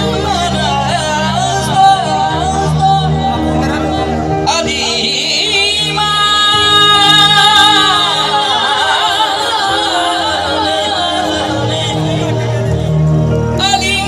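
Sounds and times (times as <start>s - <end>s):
musical accompaniment: 0.0s - 14.0s
person singing devotional song: 0.0s - 14.0s.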